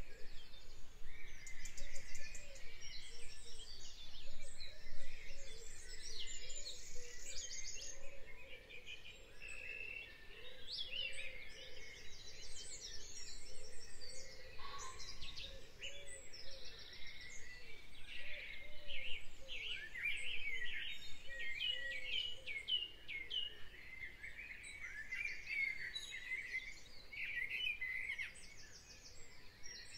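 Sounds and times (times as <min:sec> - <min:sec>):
birds chirping and singing: 0:00.0 - 0:29.9.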